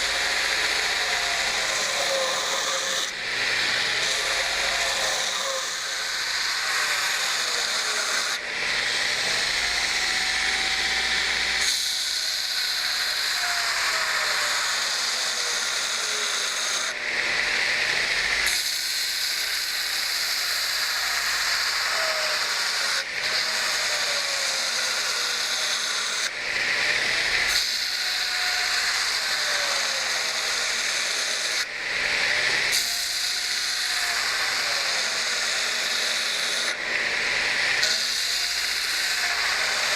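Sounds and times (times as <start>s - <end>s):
belt grinder grinding steel: 0.0s - 39.9s
faint motor whine: 0.0s - 39.9s.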